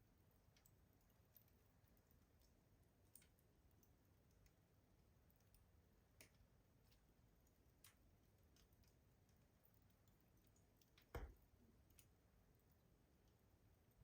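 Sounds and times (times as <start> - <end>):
wood fire crackling in a stove: 0.0 - 14.0.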